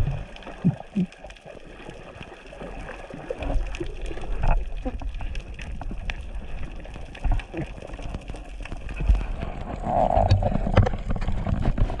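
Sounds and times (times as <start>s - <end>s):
underwater rumble of moving water: 0.0s - 12.0s.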